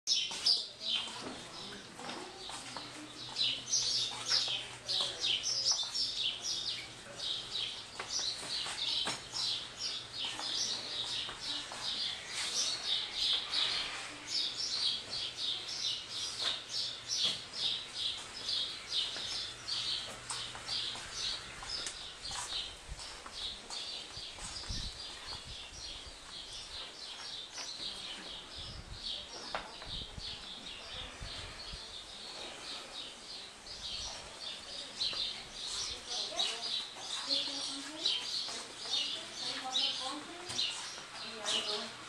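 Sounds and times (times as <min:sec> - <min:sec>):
small birds chirping: 0:00.1 - 0:42.0.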